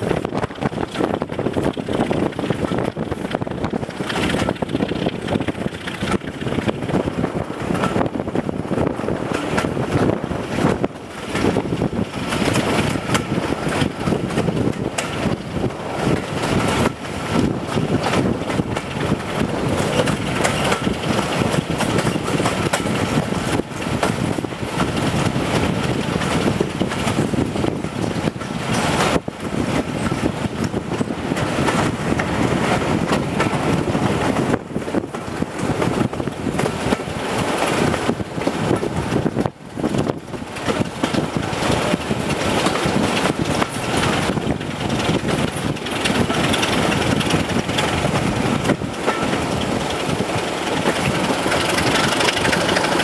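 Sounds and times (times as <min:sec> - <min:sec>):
locomotive diesel engine: 0:00.0 - 0:53.0
train wheel and rail noise: 0:00.0 - 0:53.0
wind buffeting the microphone: 0:00.0 - 0:53.0.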